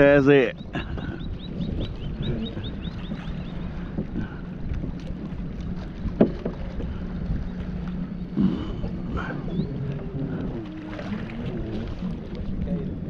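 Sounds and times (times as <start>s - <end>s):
water sounds: 0.0s - 13.0s
wind on microphone: 0.0s - 13.0s.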